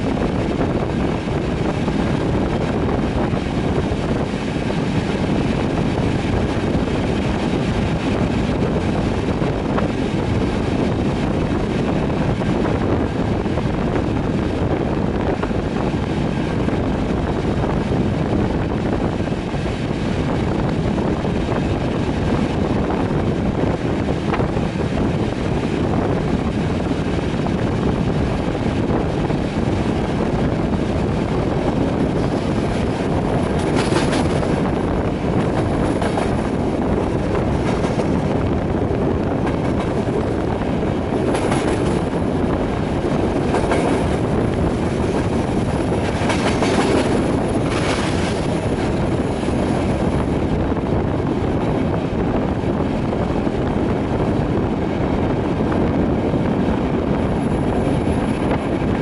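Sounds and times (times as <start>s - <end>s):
train wheels rumbling on rail: 0.0s - 59.0s
wind: 0.0s - 59.0s.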